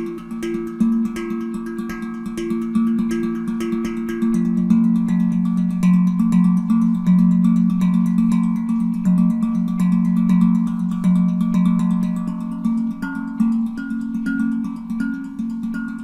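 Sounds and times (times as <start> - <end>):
steel hand drum played: 0.0 - 16.0.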